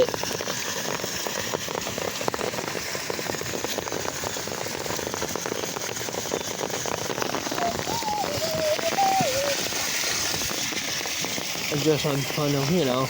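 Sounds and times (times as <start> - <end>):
rain drops hitting ground: 0.0 - 13.0.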